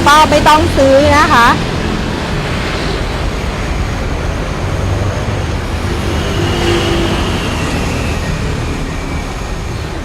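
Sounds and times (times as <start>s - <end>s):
gas burner roaring: 0.0s - 10.0s.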